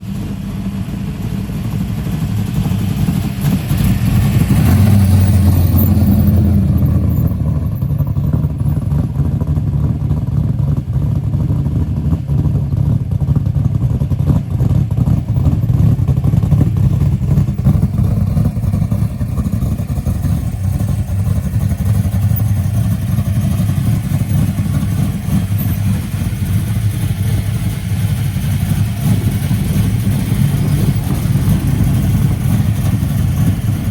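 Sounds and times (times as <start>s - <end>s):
car engines rumbling: 0.0s - 33.9s.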